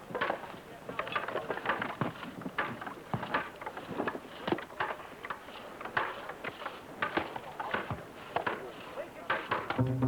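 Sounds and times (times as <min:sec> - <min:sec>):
horse hooves clopping: 0:00.0 - 0:10.0.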